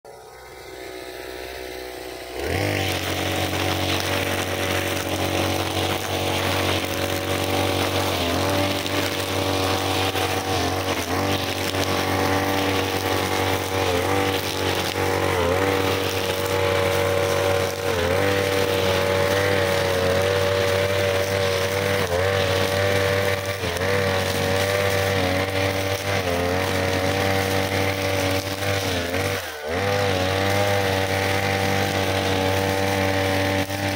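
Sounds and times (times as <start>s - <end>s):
brush cutter engine running: 0.1s - 33.9s.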